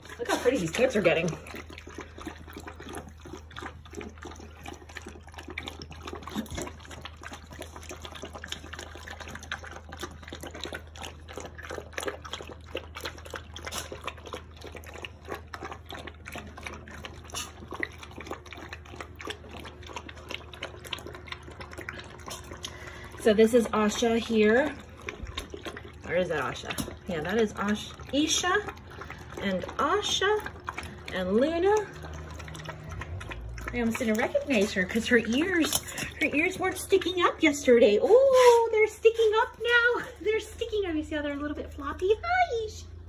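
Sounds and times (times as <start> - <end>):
small splashes: 0.0 - 42.0
puppies lapping water: 0.0 - 43.0.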